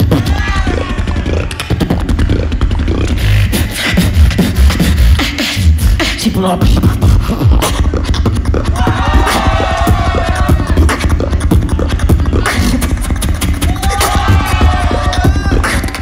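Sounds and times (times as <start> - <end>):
beatboxing into microphone: 0.0 - 16.0.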